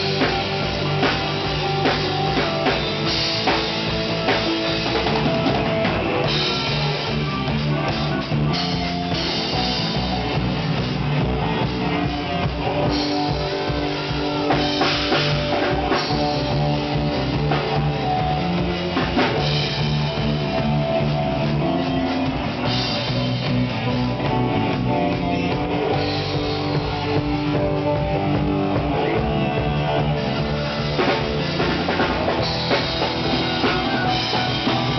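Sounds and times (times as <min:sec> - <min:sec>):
drum kit: 0:00.0 - 0:34.9
guitar: 0:00.0 - 0:34.9
live rock band playing: 0:00.0 - 0:34.9.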